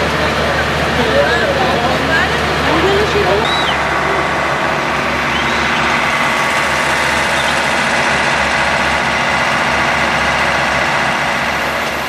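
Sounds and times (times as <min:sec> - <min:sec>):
train diesel engine idling: 0:00.0 - 0:12.0.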